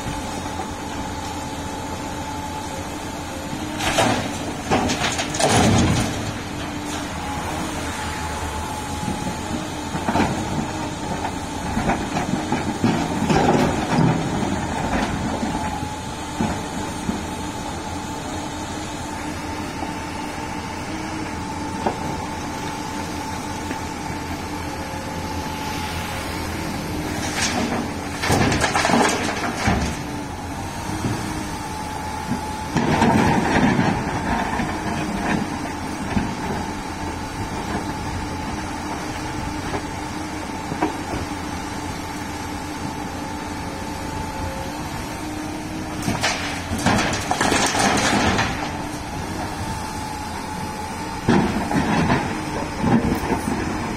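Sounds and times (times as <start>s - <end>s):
excavator diesel engine whining: 0.0s - 53.9s.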